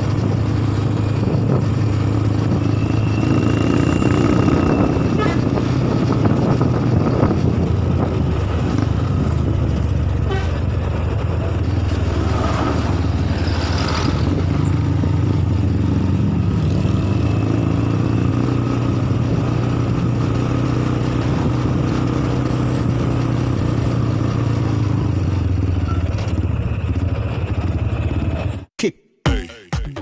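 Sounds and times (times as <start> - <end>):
tyre and wind noise: 0.0 - 28.5
bus engine drone: 0.0 - 28.7.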